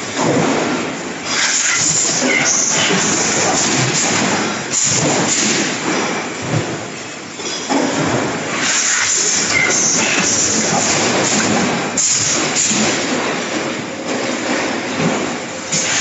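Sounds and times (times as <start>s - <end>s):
punch presses clattering and hissing: 0.0s - 16.0s.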